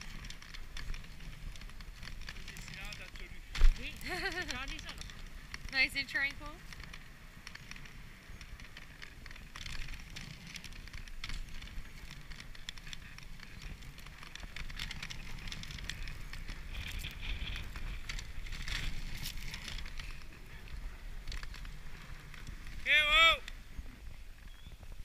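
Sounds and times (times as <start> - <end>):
sled clicks and rattles: 0.0 - 25.0
sled runners hissing over snow: 0.0 - 25.0.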